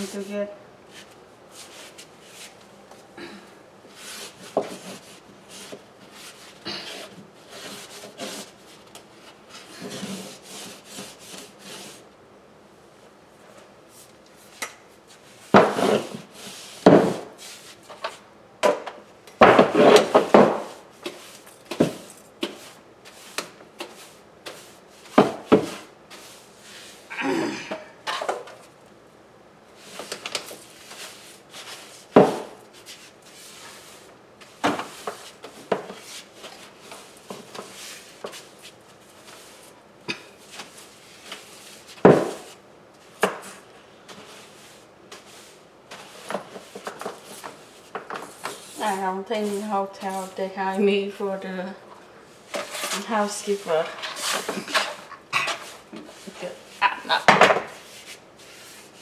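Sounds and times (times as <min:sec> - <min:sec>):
floor rubbing and scraping: 0:00.0 - 0:03.1, 0:03.8 - 0:12.1, 0:13.4 - 0:27.1, 0:29.8 - 0:51.4, 0:52.4 - 0:59.0.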